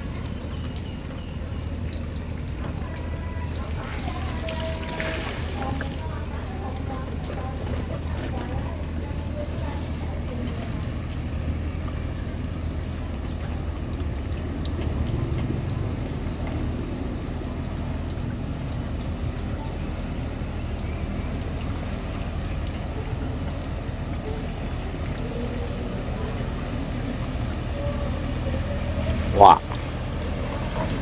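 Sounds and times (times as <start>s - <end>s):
boat engine droning: 0.0s - 31.0s
water sounds: 0.0s - 31.0s.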